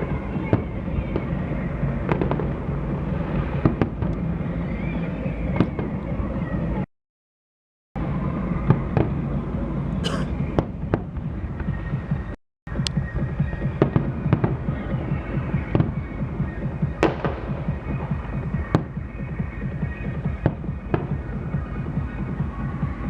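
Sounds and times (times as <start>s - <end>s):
low rumble of explosions: 0.0s - 6.9s, 8.0s - 23.0s.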